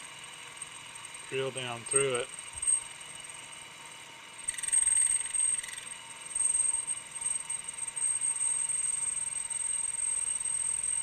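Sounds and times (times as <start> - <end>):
drill press whine: 0.0 - 11.0.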